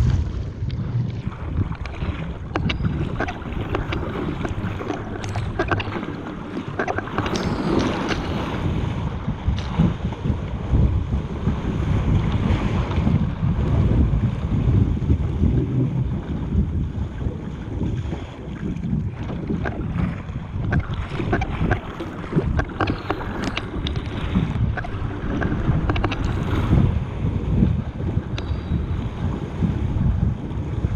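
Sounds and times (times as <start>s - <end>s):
paddle stroke splashes: 0.0s - 13.9s, 17.0s - 30.7s
water rushing along hull: 0.0s - 30.9s
wind buffeting microphone: 0.0s - 30.9s.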